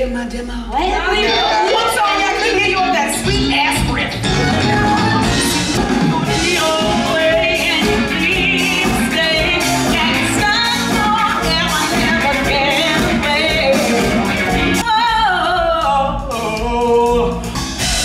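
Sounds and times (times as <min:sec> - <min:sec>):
rock-pop band playing: 0:01.0 - 0:18.0.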